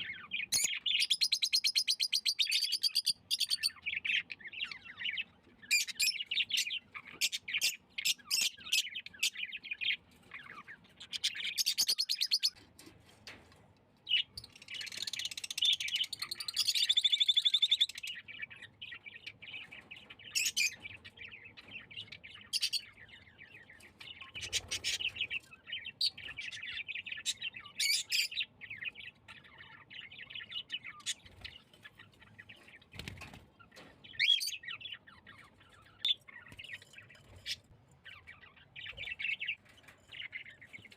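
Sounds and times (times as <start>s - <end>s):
cage birds chirping: 0.0s - 40.9s.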